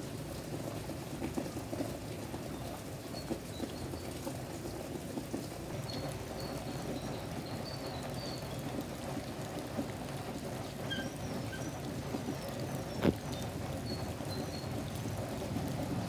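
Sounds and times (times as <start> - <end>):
rain on wet road: 0.0 - 16.0.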